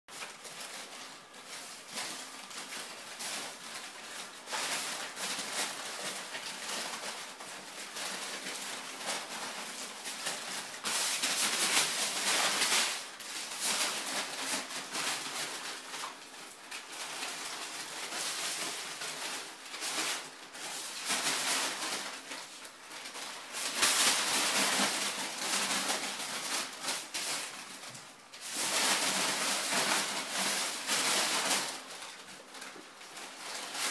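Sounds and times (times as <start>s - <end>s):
packing paper rustling and crinkling: 0.1s - 33.9s.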